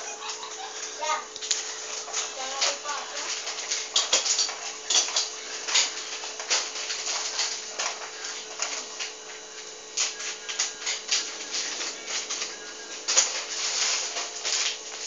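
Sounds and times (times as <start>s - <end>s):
ceiling fan motor hum: 0.0s - 15.0s
fan clicking as it wobbles: 0.0s - 15.0s.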